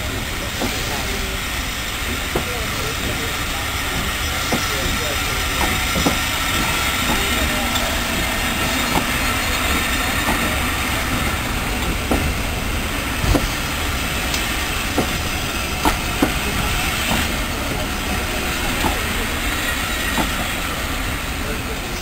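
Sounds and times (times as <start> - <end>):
train wheels rumbling on rail: 0.0 - 22.0
wheels clunking over rail joints: 0.0 - 22.0.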